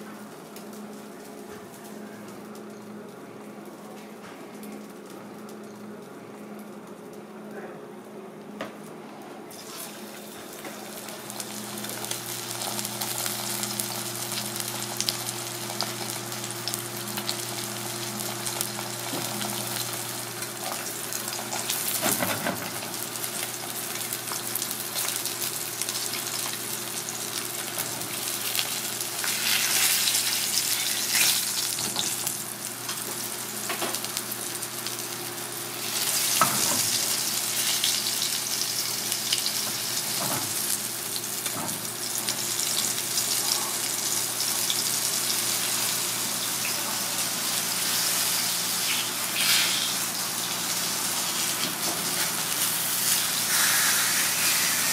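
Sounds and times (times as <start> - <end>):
fish sizzling in hot oil: 9.5 - 54.9.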